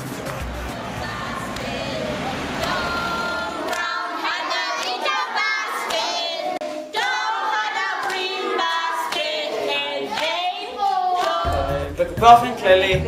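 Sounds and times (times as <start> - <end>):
young children singing: 0.4 - 12.0.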